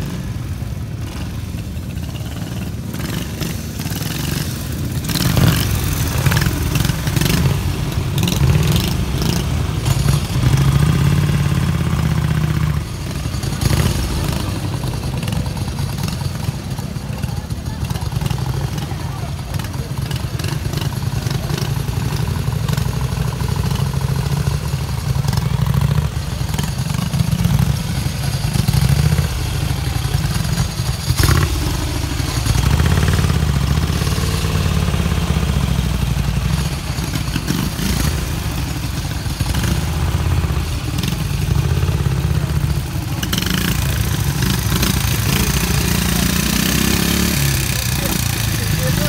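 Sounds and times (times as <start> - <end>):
motorcycle engines running: 0.0 - 49.0.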